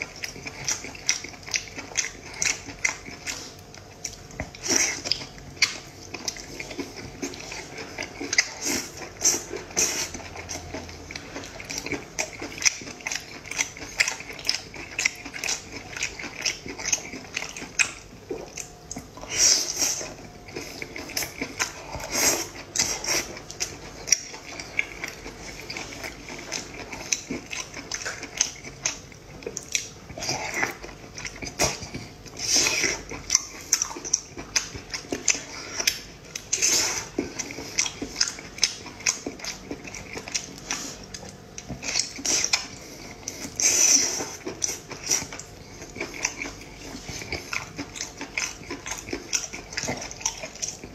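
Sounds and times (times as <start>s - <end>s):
wet chewing and lip smacks: 0.0s - 50.9s
slurping: 4.4s - 29.0s, 29.8s - 50.9s.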